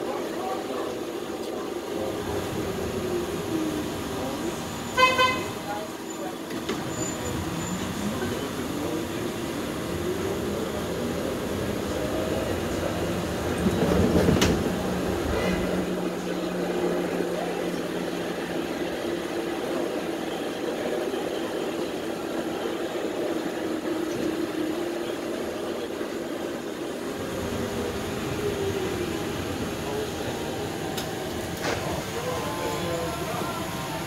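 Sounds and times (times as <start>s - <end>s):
streetcar rumbling on rails: 0.0s - 34.0s.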